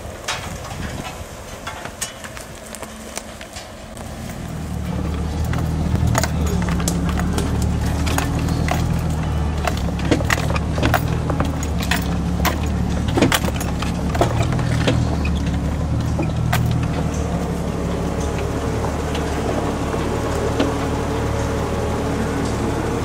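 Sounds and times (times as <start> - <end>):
engine droning at crawling speed: 0.0 - 23.0
sharp knocks and rattles: 0.0 - 23.0.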